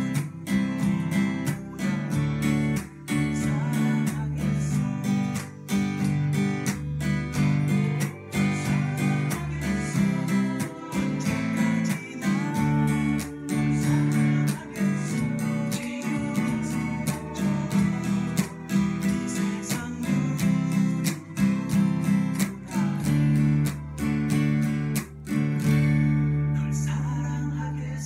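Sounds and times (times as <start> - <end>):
acoustic guitar strummed: 0.0 - 28.0.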